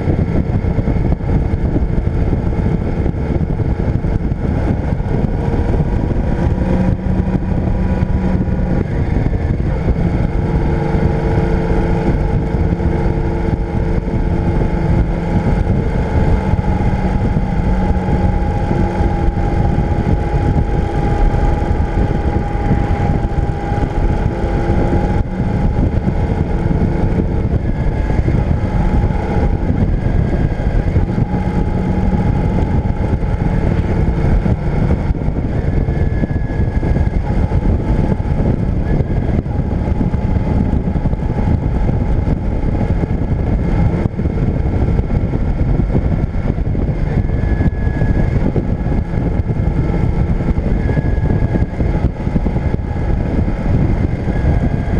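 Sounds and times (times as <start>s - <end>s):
motorcycle engine cruising: 0.0s - 54.9s
wind and road noise: 0.0s - 54.9s.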